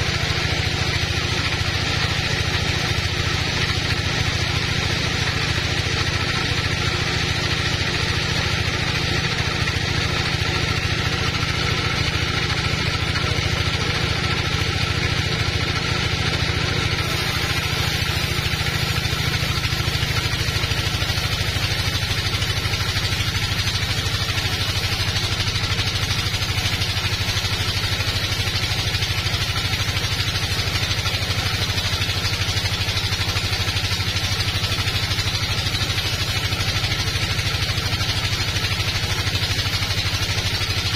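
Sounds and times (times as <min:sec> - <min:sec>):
bandsaw cutting log: 0:00.0 - 0:40.9.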